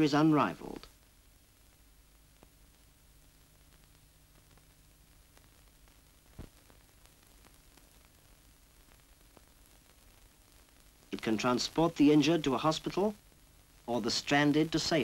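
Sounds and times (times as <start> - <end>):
faint crackles: 0.0 - 15.0
film soundtrack hiss and hum: 0.0 - 15.0.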